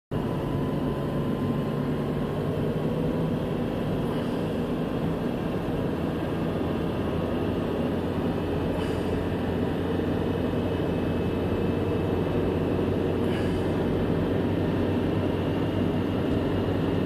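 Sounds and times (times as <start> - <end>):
car engine and tyre hum: 0.1 - 17.0.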